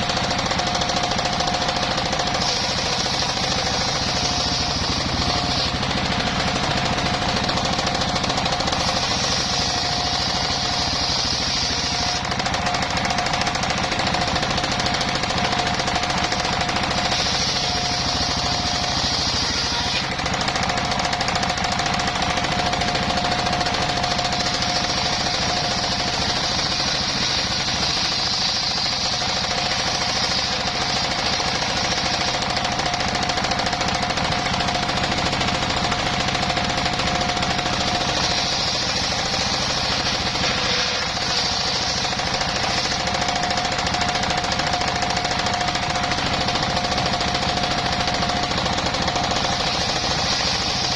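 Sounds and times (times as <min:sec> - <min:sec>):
hissing rush of cutting: 0:00.0 - 0:50.9
saw whine: 0:00.0 - 0:50.9
sawmill engine pounding: 0:00.0 - 0:50.9.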